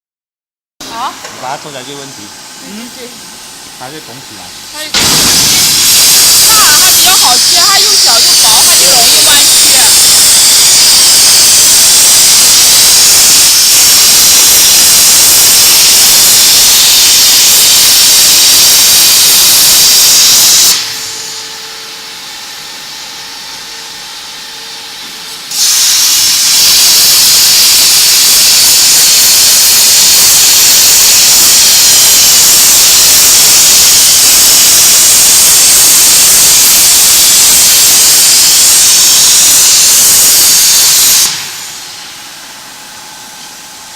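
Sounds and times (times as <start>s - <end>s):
plasma torch cutting metal: 0.8s - 3.2s, 3.8s - 21.7s, 25.4s - 43.4s.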